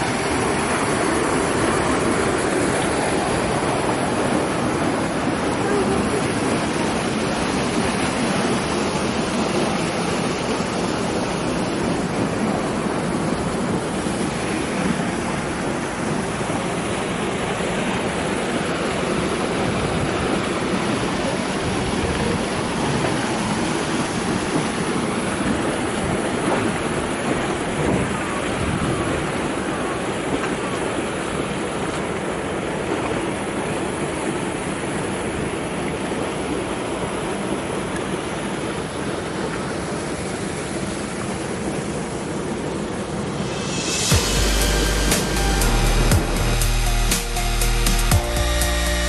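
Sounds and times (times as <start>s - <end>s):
flood water rushing: 0.0s - 49.0s.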